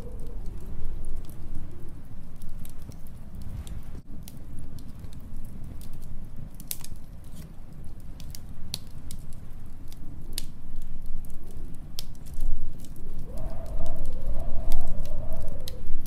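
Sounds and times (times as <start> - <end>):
storm wind rumble: 0.0 - 16.0
wood fire crackling: 0.0 - 16.0.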